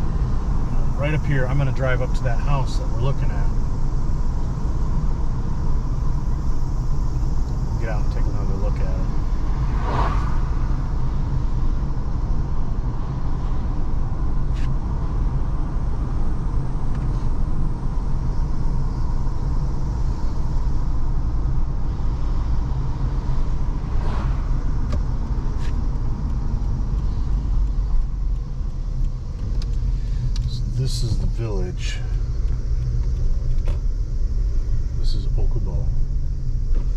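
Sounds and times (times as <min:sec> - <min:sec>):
car engine and tyres rumbling: 0:00.0 - 0:36.9.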